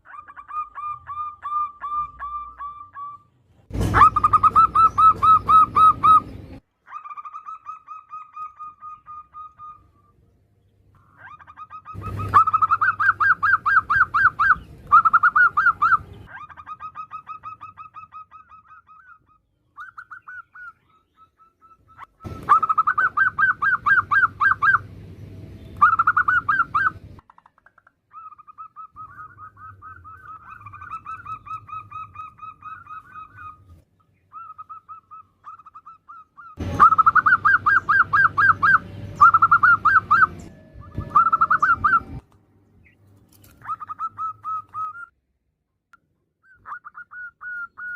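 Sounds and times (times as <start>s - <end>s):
dove calling: 0.0s - 10.2s, 10.9s - 45.2s, 46.4s - 47.9s.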